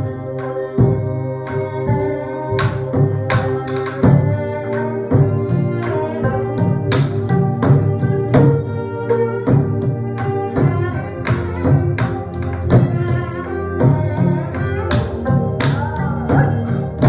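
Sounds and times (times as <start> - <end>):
bowed and plucked strings: 0.0 - 17.0.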